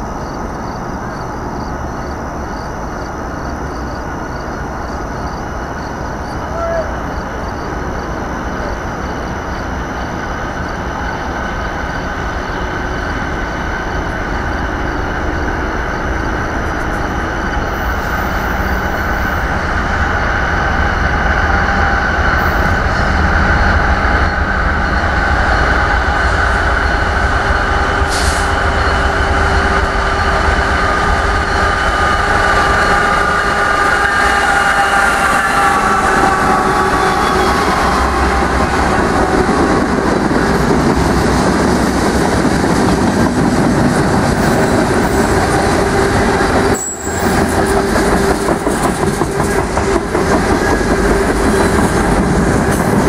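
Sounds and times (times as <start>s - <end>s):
freight train rumble: 0.0s - 53.0s.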